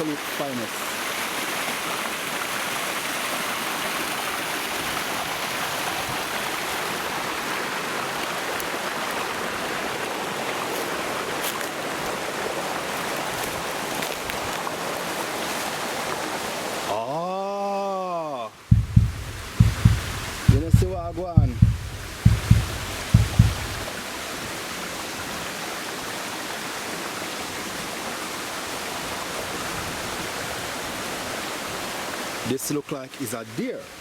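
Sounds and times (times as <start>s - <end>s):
stream running over rocks: 0.0s - 34.0s.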